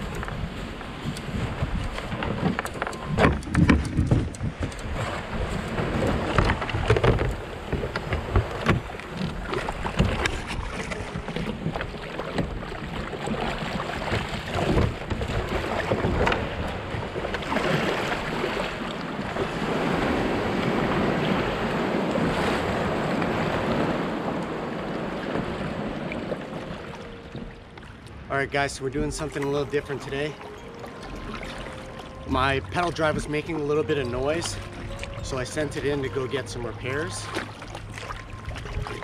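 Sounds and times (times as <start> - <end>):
wind on microphone: 0.0 - 27.6, 31.1 - 39.0
water splashing around kayak: 0.0 - 39.0.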